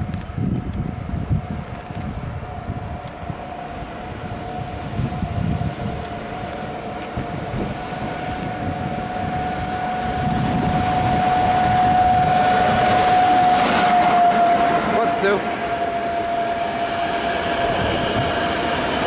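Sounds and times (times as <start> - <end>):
electric locomotive whine: 0.0 - 19.0
train wheels rumbling on rail: 0.0 - 19.0.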